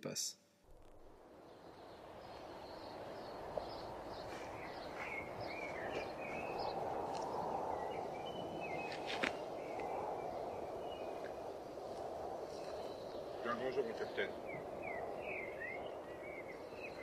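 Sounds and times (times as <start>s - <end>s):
small birds chirping: 0.0s - 17.0s
steady low rush: 0.6s - 17.0s.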